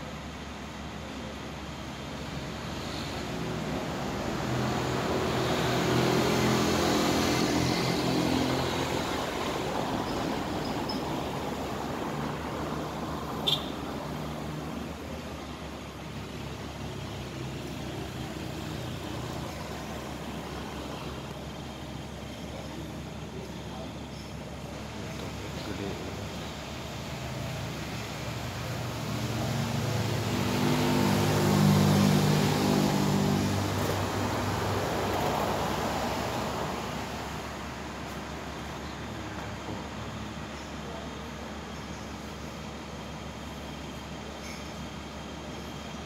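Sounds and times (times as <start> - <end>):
vehicle engine passing: 2.7 - 40.4.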